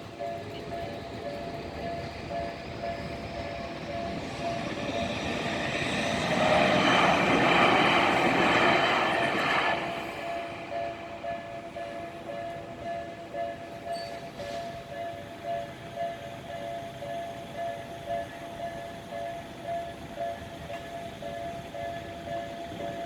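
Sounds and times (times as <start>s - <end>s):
level crossing warning bell ringing: 0.0s - 7.4s, 9.3s - 23.0s
train rumbling: 0.0s - 23.0s.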